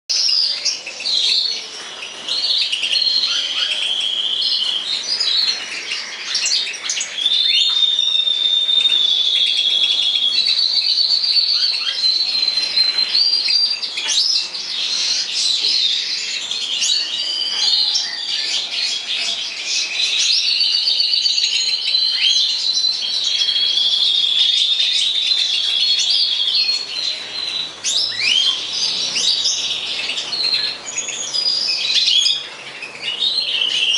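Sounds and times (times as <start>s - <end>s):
goldfinches singing: 0.2s - 33.9s.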